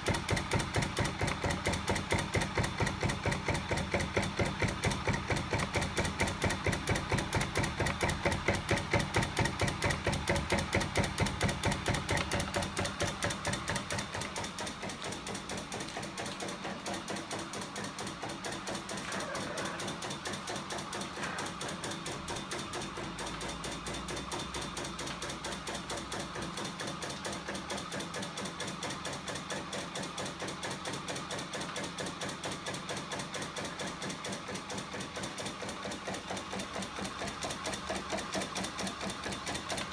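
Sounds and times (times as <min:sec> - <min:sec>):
mechanism rhythmic clatter: 0:00.0 - 0:39.9.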